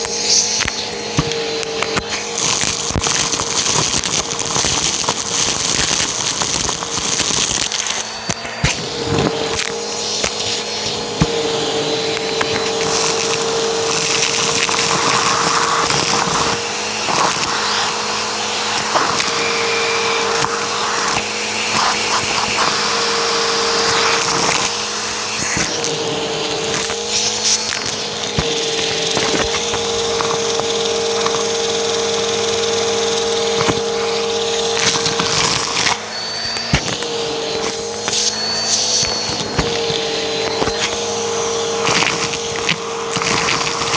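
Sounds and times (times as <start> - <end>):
vacuum cleaner running: 0.0 - 43.9.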